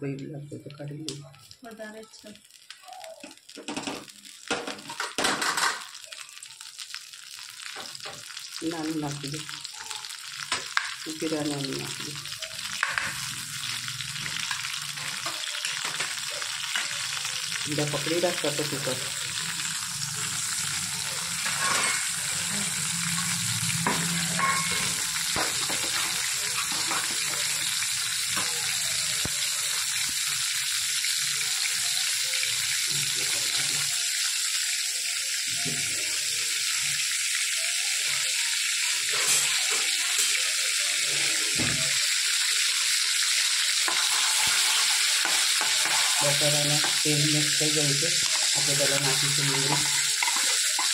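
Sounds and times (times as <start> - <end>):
butter sizzling in hot oil: 0.6 - 50.9.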